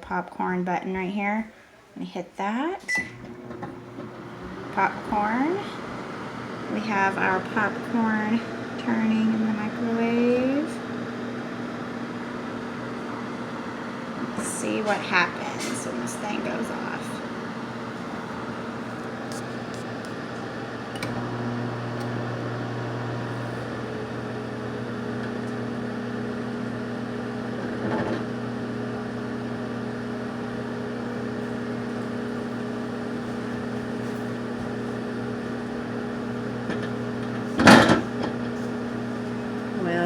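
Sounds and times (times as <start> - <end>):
microwave oven humming: 2.8 - 40.0.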